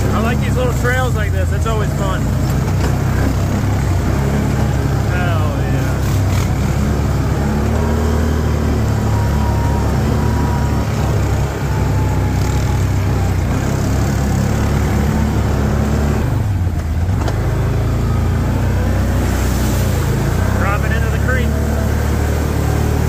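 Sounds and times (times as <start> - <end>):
four-wheeler engine running: 0.0 - 23.0.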